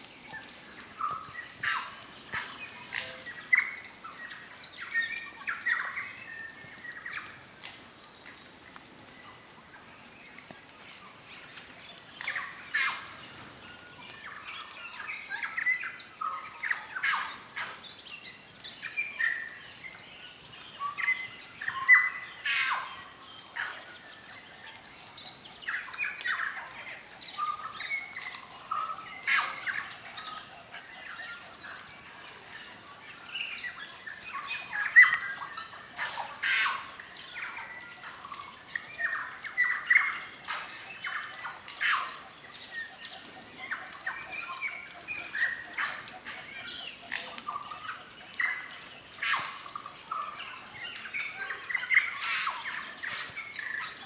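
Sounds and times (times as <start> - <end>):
forest birds chorus: 0.0 - 54.0.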